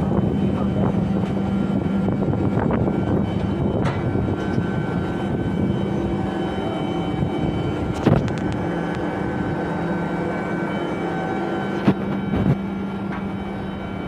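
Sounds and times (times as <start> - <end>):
constant tones: 0.0 - 14.0
machinery humming: 0.0 - 14.0.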